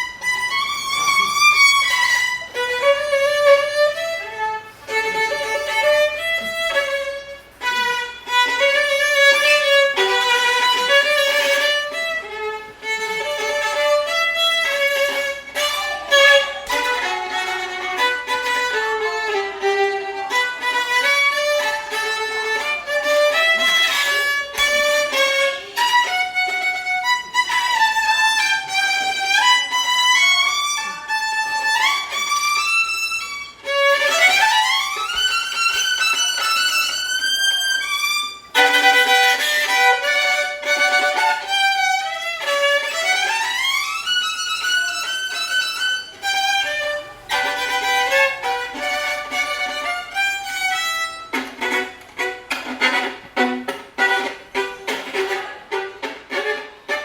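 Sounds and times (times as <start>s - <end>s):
solo violin melody: 0.0s - 57.0s.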